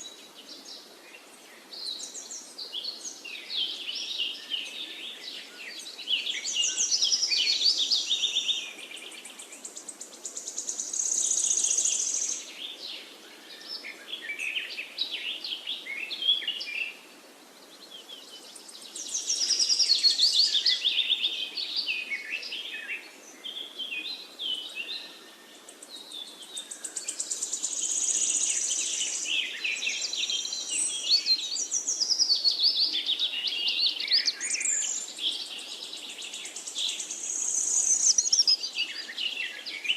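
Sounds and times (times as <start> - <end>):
birds chirping and trilling: 0.0 - 17.0, 17.6 - 39.9.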